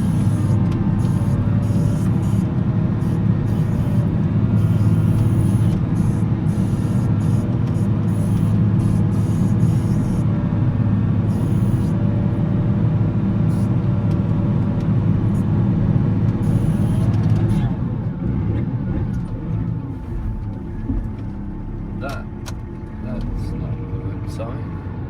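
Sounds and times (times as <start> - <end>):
wheel loader diesel engine drone: 0.0 - 25.0.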